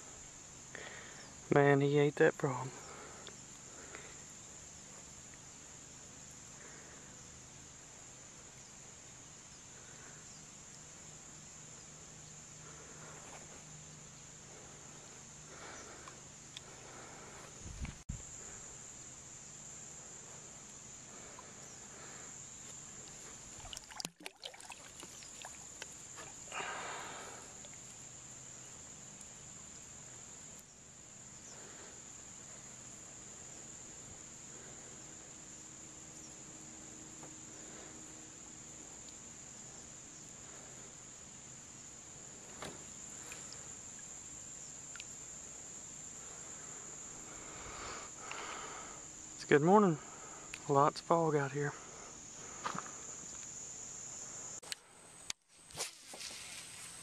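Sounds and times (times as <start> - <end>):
insect chorus chirring: 0.0 - 57.0.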